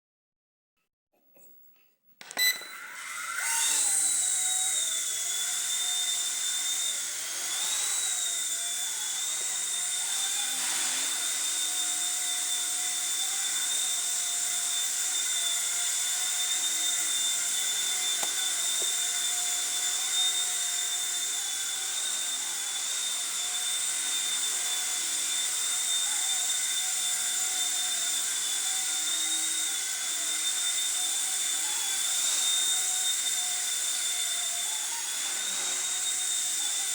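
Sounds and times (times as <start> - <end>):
rc helicopter motor whine: 2.6 - 36.9.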